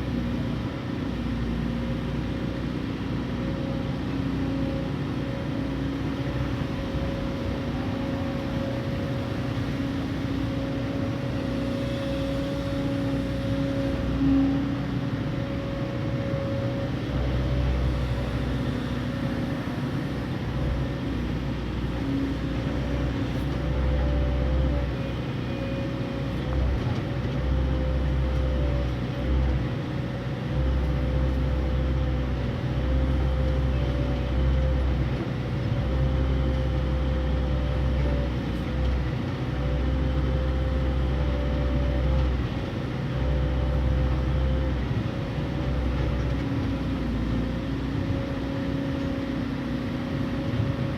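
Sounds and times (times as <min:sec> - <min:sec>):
constant hum: 0:00.0 - 0:50.9
excavator diesel engine running: 0:00.0 - 0:50.9.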